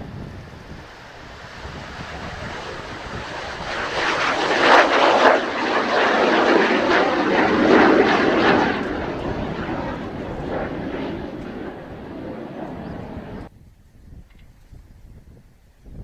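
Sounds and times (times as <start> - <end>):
jet engines roaring: 0.0 - 13.5.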